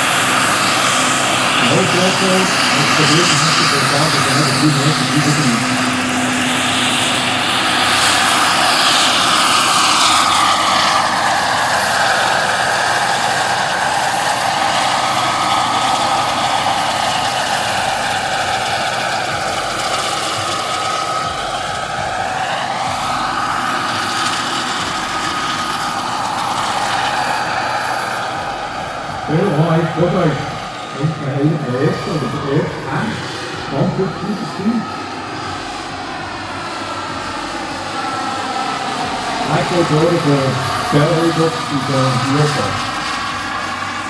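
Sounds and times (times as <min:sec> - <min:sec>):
helicopter rotor noise: 0:00.0 - 0:44.0
model helicopter turbine whine: 0:00.0 - 0:44.0.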